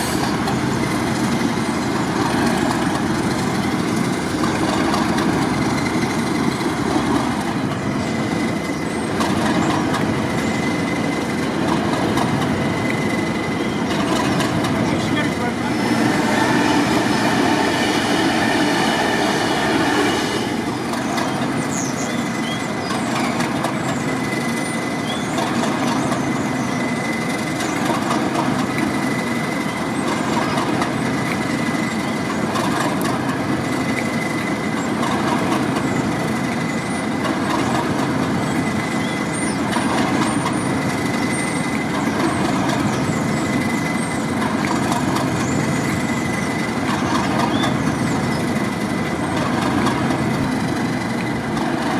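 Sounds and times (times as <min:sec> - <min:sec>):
high wheel squeaks: 0:00.0 - 0:51.9
train rumbling on rails: 0:00.0 - 0:51.9.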